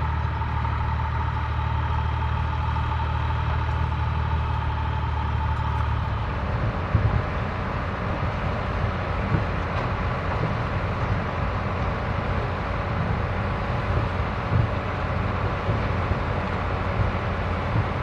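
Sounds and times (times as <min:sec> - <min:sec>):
field machinery noise: 0:00.0 - 0:18.0
tractor engine running: 0:00.0 - 0:18.0.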